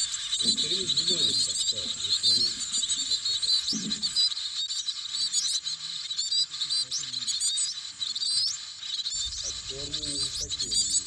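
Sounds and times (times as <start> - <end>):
nestlings chirping: 0.0 - 11.0.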